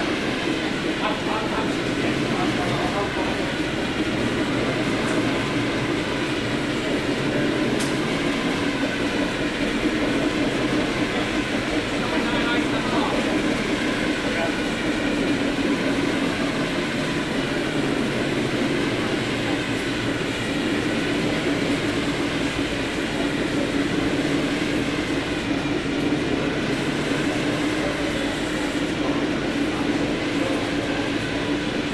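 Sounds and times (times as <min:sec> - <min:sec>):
train humming: 0:00.0 - 0:31.9.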